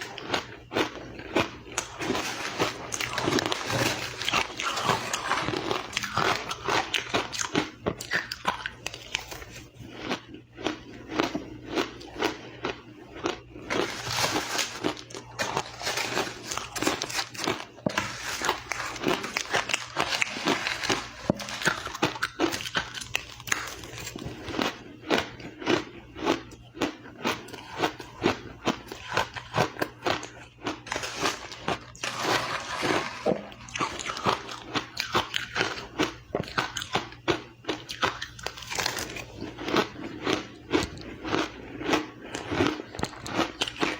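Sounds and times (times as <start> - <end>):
person crunching ice: 0.0 - 36.9, 37.9 - 43.9.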